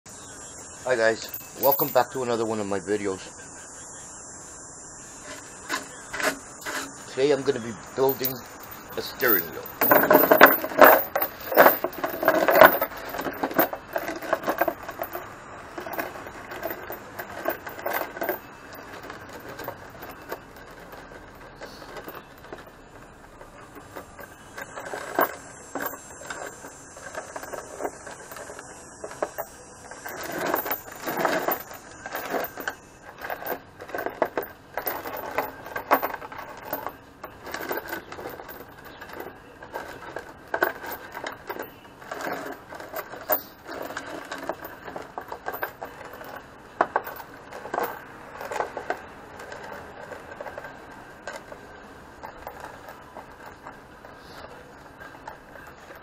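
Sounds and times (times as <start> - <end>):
chain scraping over wood: 1.0 - 2.4, 5.2 - 56.0
chain links clinking: 1.1 - 2.3, 5.6 - 49.8.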